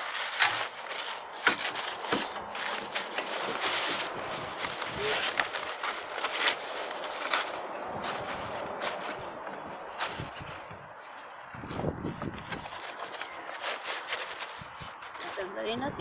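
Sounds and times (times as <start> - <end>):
roofing felt rustling and crinkling: 0.0 - 16.0.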